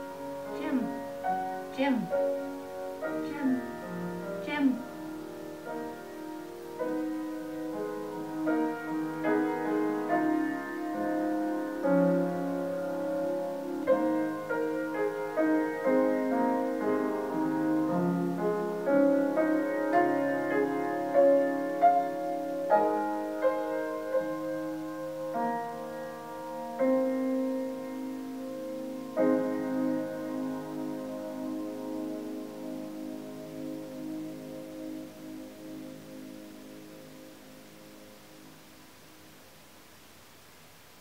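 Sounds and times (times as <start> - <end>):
slow solo piano: 0.0 - 39.6.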